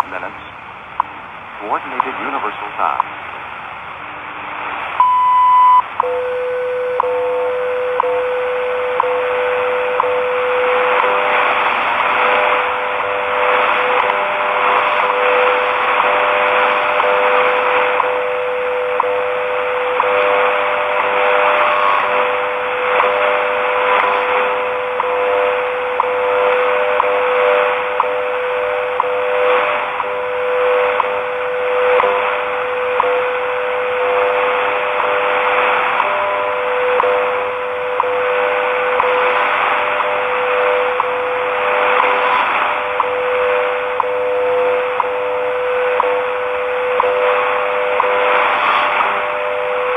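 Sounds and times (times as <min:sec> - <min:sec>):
steady radio tone: 0:00.0 - 0:03.5, 0:04.4 - 0:49.9
shortwave static hiss: 0:00.0 - 0:49.9.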